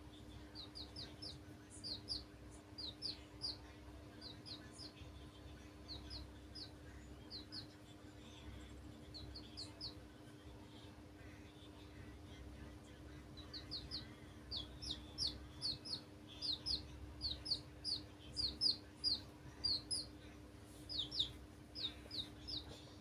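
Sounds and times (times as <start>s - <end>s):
baby chicks peeping: 0.0s - 10.1s, 10.7s - 23.0s.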